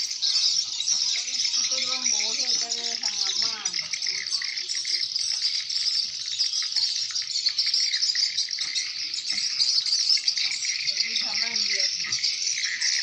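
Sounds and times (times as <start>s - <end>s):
swiftlets twittering: 0.0s - 13.0s.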